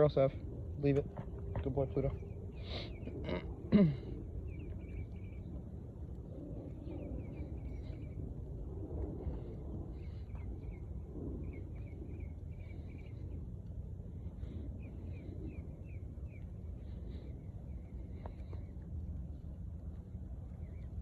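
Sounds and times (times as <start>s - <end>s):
wind rumble on microphone: 0.0s - 21.0s
songbird chirping: 0.2s - 8.6s, 9.2s - 21.0s.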